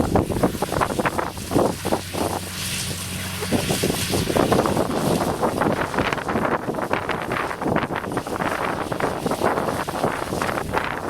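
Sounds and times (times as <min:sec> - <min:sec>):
combine harvester hum: 0:00.0 - 0:11.0
wind buffeting microphone: 0:00.0 - 0:11.0.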